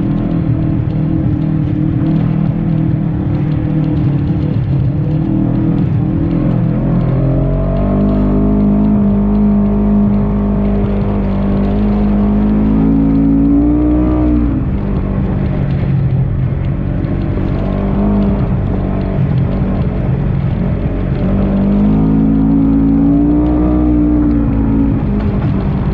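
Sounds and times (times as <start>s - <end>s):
utility vehicle engine revving: 0.0s - 25.9s.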